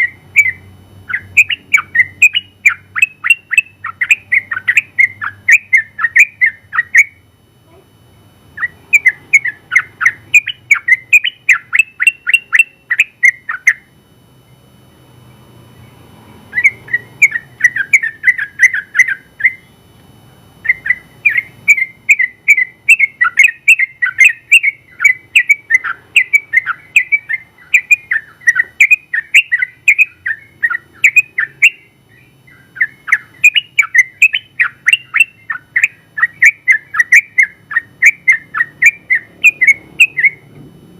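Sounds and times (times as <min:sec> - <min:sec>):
bulbul singing rolling notes: 0:00.0 - 0:40.5.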